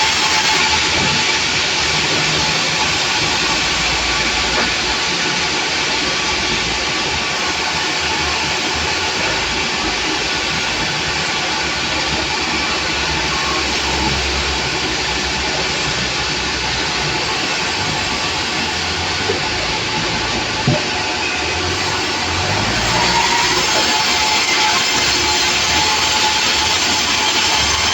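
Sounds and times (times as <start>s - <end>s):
sawmill machinery running: 0.0s - 27.9s.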